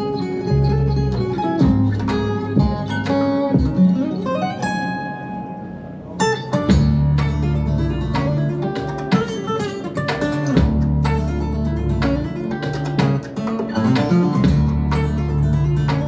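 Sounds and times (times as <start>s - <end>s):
flamenco guitar music: 0.0s - 16.0s.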